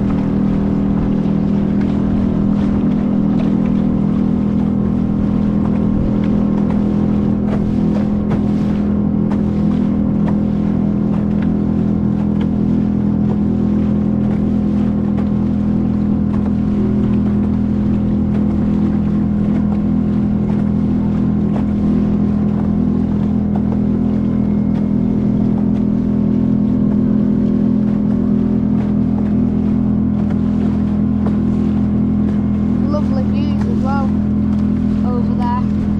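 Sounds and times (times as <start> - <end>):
motor droning: 0.0 - 35.9.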